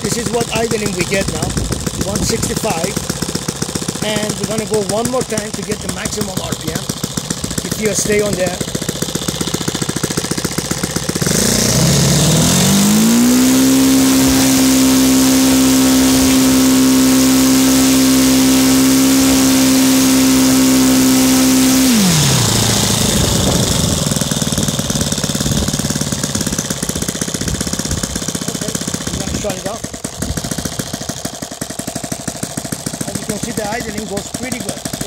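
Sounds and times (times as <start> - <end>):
model aircraft engine revving: 0.0 - 35.0.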